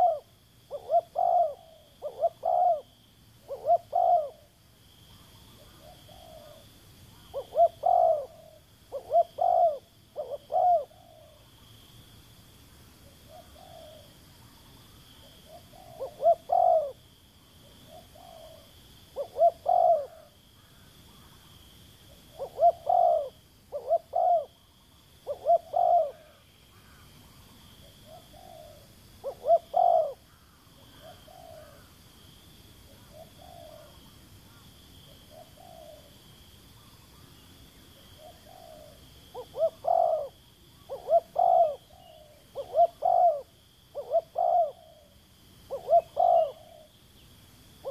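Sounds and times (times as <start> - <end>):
dove cooing: 0.0 - 4.6, 5.2 - 11.5, 13.0 - 17.0, 17.6 - 21.4, 22.1 - 31.9, 32.9 - 36.2, 38.0 - 47.0
faint high-pitched whine: 0.0 - 47.9.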